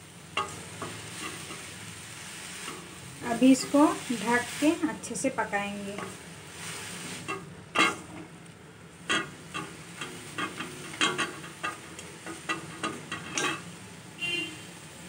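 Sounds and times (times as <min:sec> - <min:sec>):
greens sizzling: 0:00.0 - 0:15.0
wooden spatula scraping metal pan: 0:00.4 - 0:08.3, 0:09.0 - 0:13.8.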